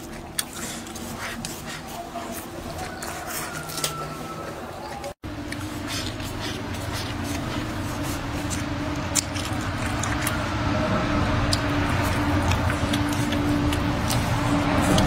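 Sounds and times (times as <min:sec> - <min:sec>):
chewing and mouth noises: 0:00.0 - 0:15.0
steady low hum: 0:00.0 - 0:15.0.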